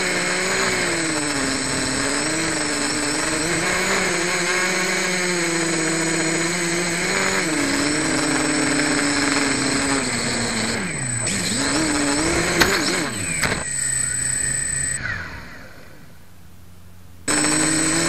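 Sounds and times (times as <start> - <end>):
drone propellers whining: 0.0 - 16.5, 17.3 - 18.0.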